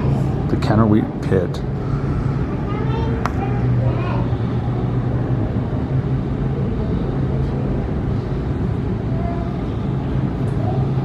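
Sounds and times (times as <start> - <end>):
cable machinery hum: 0.0 - 11.0
continuous machinery rumble: 0.0 - 11.0.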